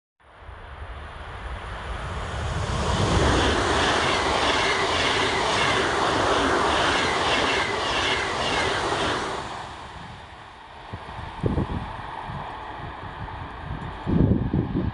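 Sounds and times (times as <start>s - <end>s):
train passing at speed: 0.2s - 14.9s.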